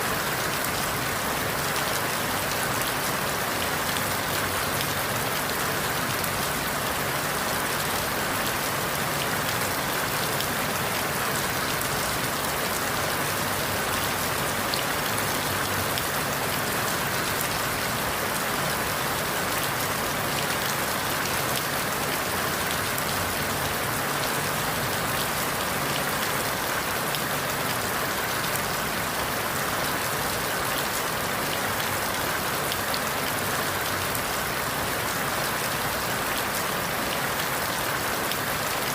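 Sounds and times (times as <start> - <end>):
rain falling on leaves: 0.0 - 38.9.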